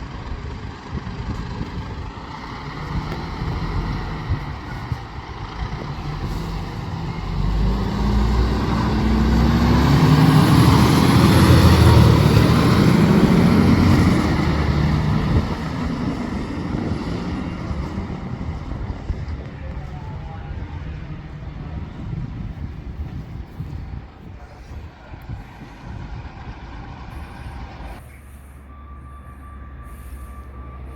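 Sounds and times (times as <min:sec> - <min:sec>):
heavy vehicle driving past: 0:00.1 - 0:30.9.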